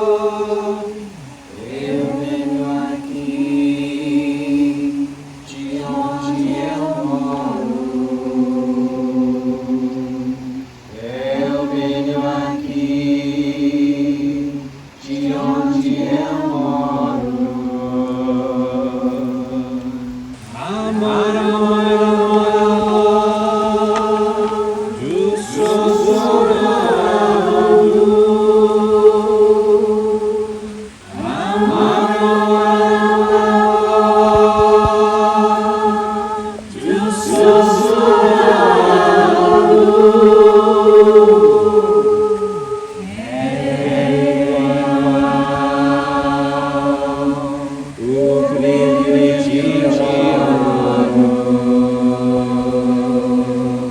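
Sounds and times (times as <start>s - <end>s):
group of voices chanting: 0.0s - 53.9s.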